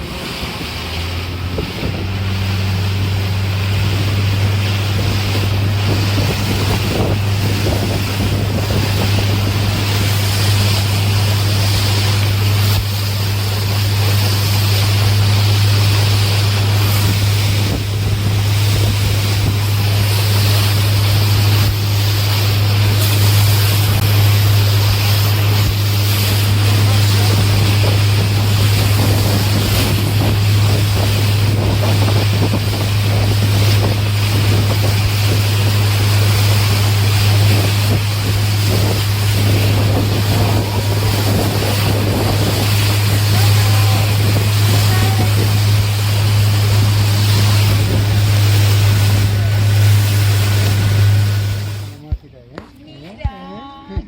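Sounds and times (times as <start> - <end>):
motorboat engine humming: 0.0 - 52.0
wind buffeting microphone: 0.0 - 52.0
water rushing against hull: 0.0 - 52.1.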